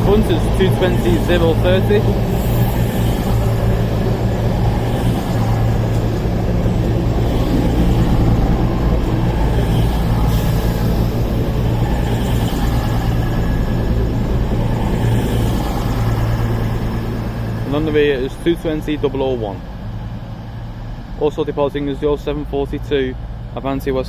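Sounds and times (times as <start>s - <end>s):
diesel train engines humming: 0.0s - 24.0s.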